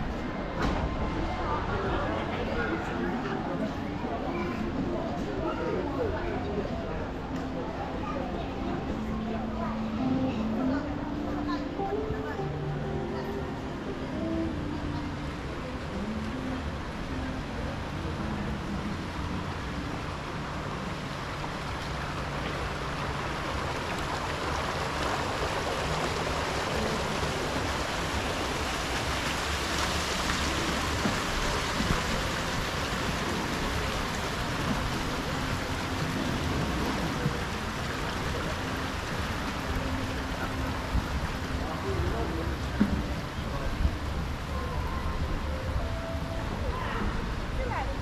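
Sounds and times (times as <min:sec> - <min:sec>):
fountain jets splashing: 0:00.0 - 0:48.0.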